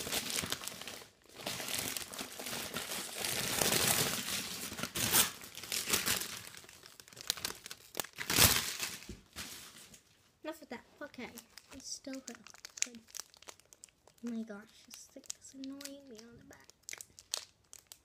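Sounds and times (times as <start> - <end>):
plastic wrapping crinkling: 0.0 - 10.2, 11.0 - 18.0.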